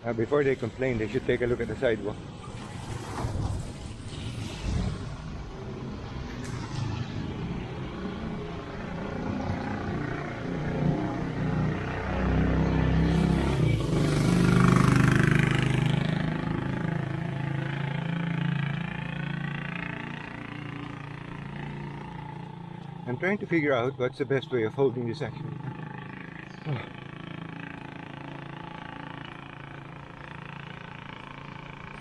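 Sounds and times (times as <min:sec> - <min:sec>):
vehicle passing by: 0:00.1 - 0:32.0.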